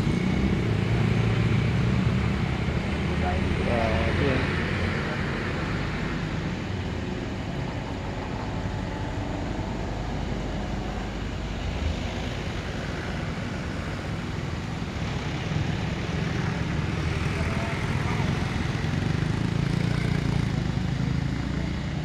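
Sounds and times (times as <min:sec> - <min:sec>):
road noise: 0:00.0 - 0:22.0
vehicle engine: 0:00.0 - 0:22.0.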